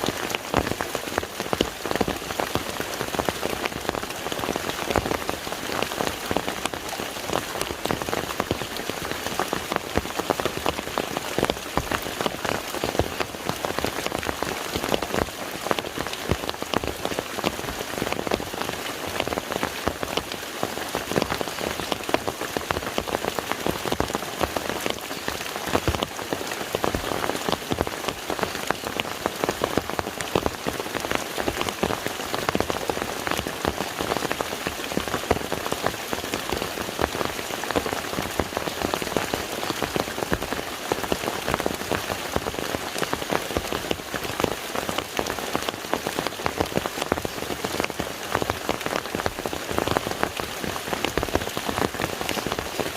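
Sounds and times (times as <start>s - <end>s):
rain falling on lake surface: 0.0s - 52.9s.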